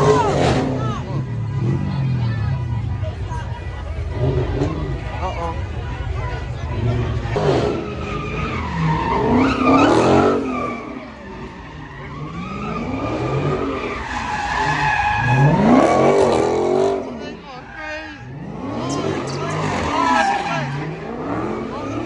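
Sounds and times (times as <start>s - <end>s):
car engine revving: 0.0s - 22.0s
tires squealing: 0.0s - 22.0s.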